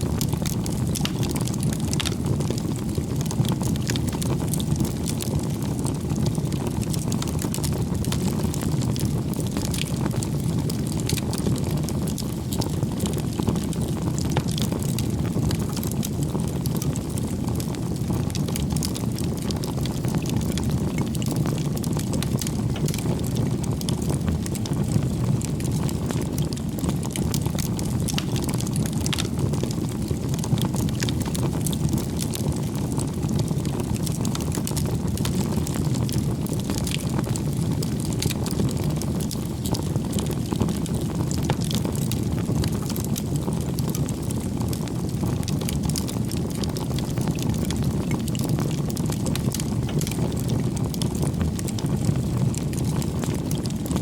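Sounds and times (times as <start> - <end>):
low rush of flame: 0.0 - 54.0
wood crackling and popping: 0.0 - 54.0.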